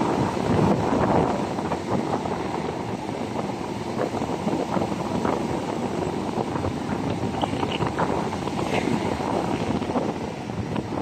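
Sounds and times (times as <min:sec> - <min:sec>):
vehicle road noise: 0:00.0 - 0:11.0
wind buffeting microphone: 0:00.0 - 0:11.0.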